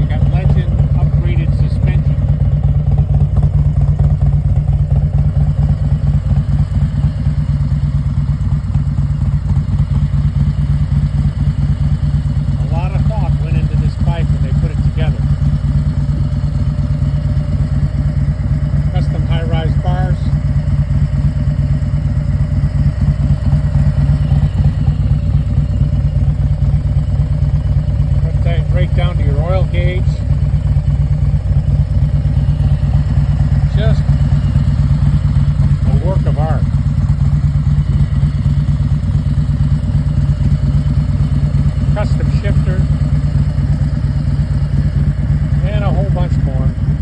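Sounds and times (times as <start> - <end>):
motorcycle engine idling: 0.0 - 47.0.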